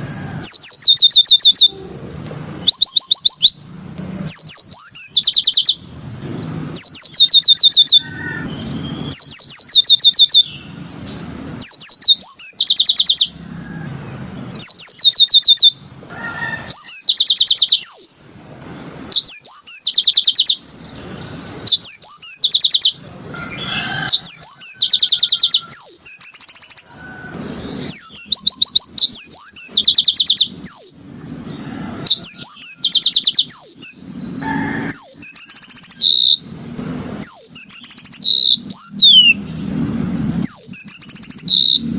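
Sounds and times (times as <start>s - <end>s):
thin steady high tone: 0.0s - 34.5s
canary singing: 0.0s - 41.9s.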